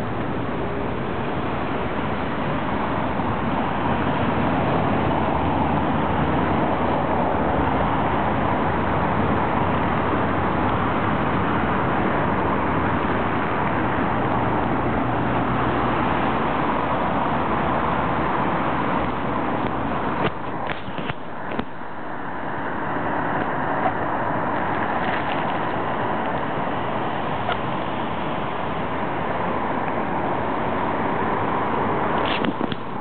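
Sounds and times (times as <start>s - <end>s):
city traffic hiss: 0.0s - 33.0s.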